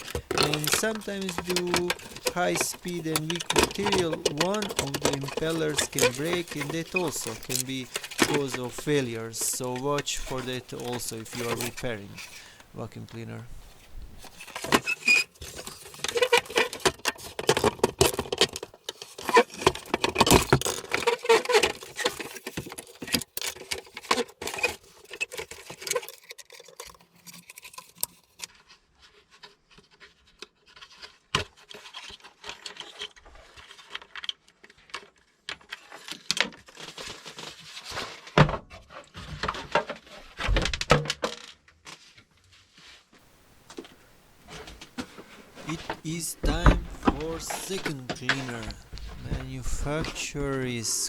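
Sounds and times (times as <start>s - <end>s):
plastic parts clattering and rattling: 0.0s - 42.2s.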